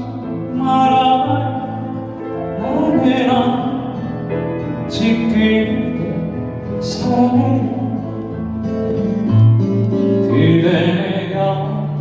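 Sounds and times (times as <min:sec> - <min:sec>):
slow piano ballad: 0:00.0 - 0:12.0.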